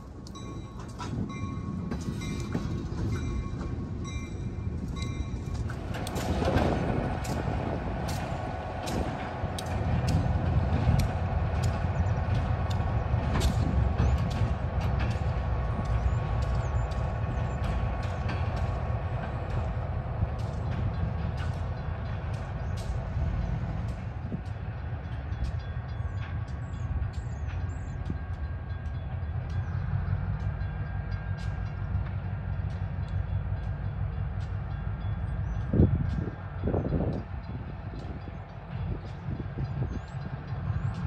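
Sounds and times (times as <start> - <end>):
diesel locomotive rumbling: 0.0 - 41.0.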